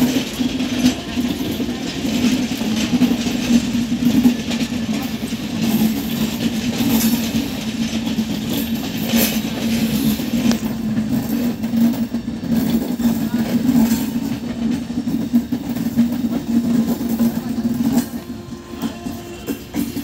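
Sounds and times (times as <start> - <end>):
train wheels rumbling on rails: 0.0 - 20.0
wheels clacking over rail joints: 0.0 - 20.0.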